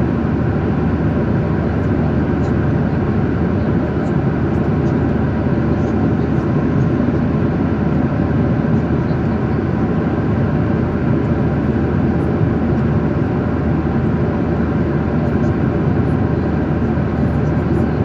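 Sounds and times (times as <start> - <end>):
jet engine cabin drone: 0.0 - 18.0.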